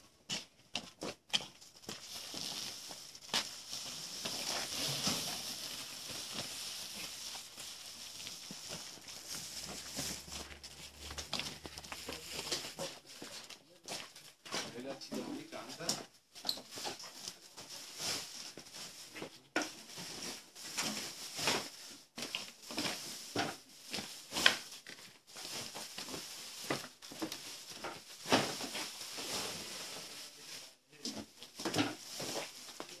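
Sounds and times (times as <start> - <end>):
rustling: 1.0 - 14.6, 16.6 - 33.0.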